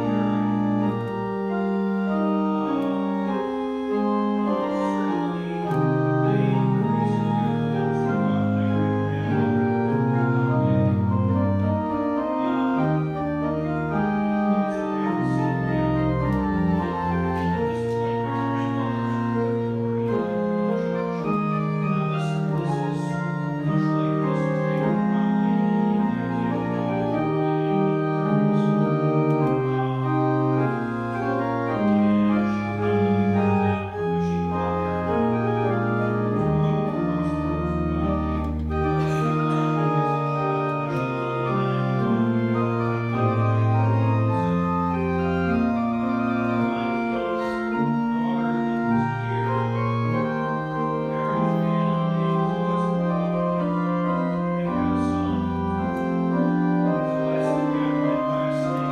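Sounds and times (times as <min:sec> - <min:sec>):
pipe organ playing: 0:00.0 - 0:58.9.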